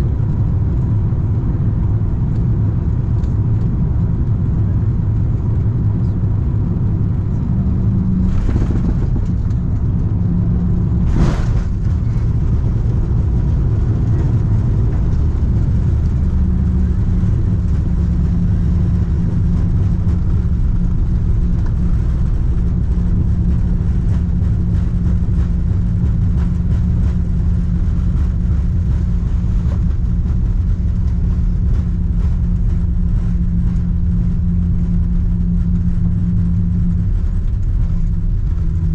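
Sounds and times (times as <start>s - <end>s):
aircraft cabin rumble: 0.0s - 38.9s
steady hum: 3.6s - 38.9s.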